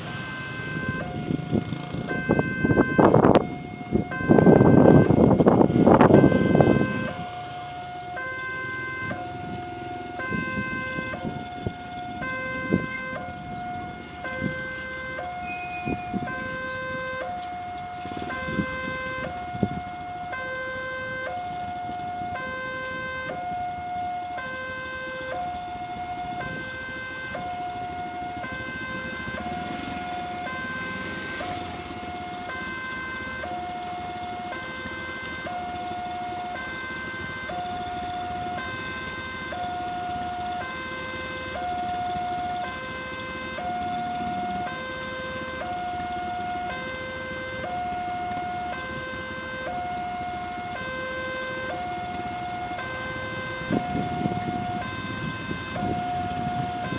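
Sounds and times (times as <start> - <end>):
level crossing alarm two-tone: 0.0 - 9.3, 10.1 - 21.5, 22.2 - 25.6, 26.3 - 56.9.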